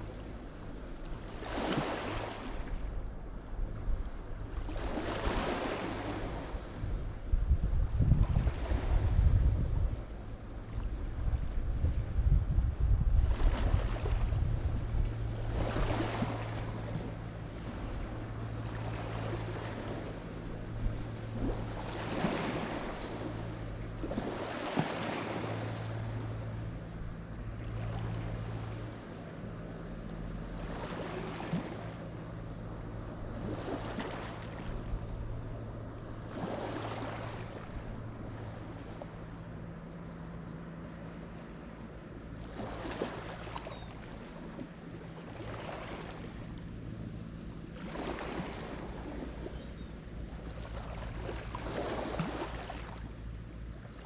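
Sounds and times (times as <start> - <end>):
waves washing onto shore: 0.0 - 41.6, 42.2 - 54.0
low steady hum: 0.0 - 54.0.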